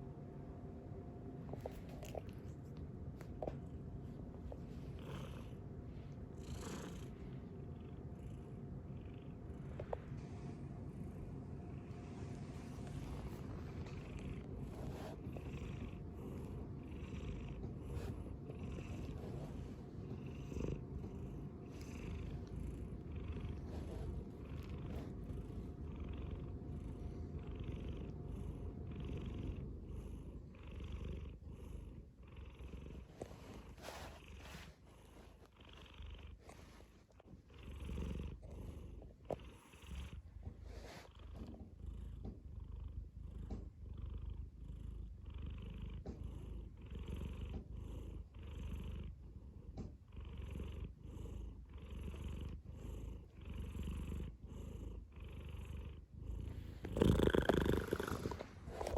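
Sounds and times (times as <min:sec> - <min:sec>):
cat purring: 0:01.4 - 0:58.9.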